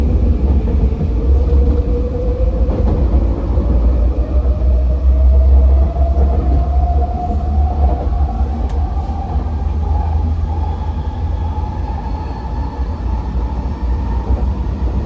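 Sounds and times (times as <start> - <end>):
train rumbling: 0.0 - 15.0
train whine rising in pitch: 0.0 - 15.0.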